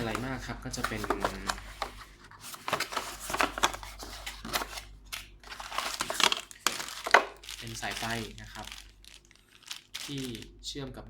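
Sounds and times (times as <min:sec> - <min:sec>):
packaging rustling and crinkling: 0:00.0 - 0:10.5.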